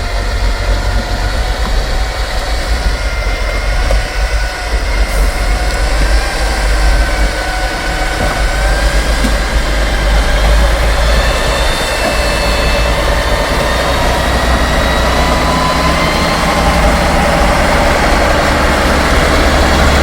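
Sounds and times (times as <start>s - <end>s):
drivetrain whine: 0.0s - 20.0s
truck engine rumbling: 0.0s - 20.0s.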